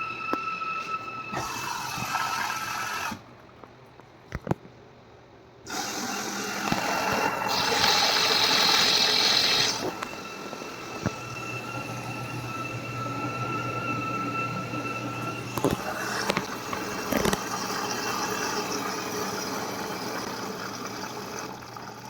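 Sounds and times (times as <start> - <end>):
washing machine motor whine: 0.0 - 3.4, 5.7 - 22.0
washing machine rushing: 0.0 - 3.4, 5.7 - 22.0.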